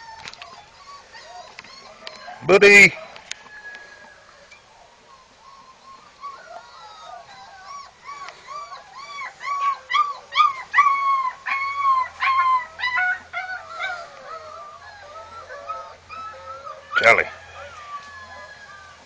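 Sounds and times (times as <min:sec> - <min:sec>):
dogs whining and yelping: 0:00.0 - 0:19.0.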